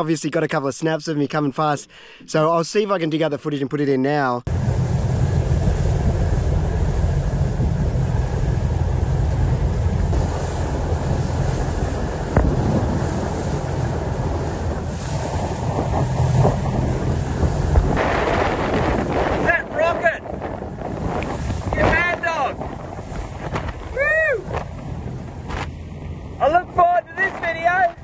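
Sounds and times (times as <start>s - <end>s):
boat motor running: 4.5s - 28.0s
wind buffeting microphone: 4.5s - 28.0s.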